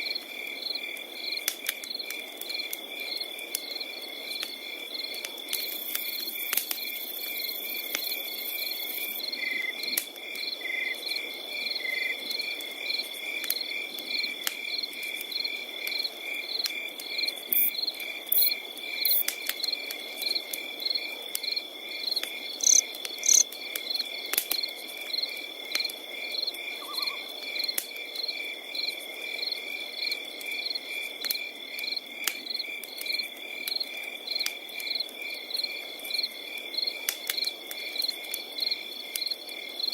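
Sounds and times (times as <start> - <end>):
fire crackling and popping: 0.1 - 9.2, 9.8 - 26.7, 27.7 - 39.8
crickets chirping: 0.1 - 39.9.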